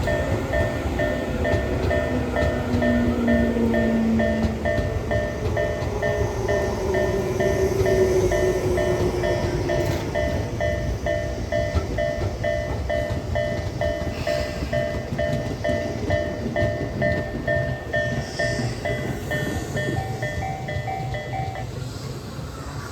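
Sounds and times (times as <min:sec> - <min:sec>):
level-crossing warning bell: 0:00.0 - 0:21.8
electric train wheels rumbling: 0:00.0 - 0:22.9.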